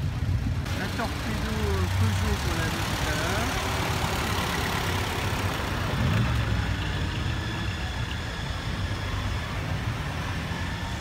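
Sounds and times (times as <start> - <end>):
car engines passing: 0.0 - 11.0.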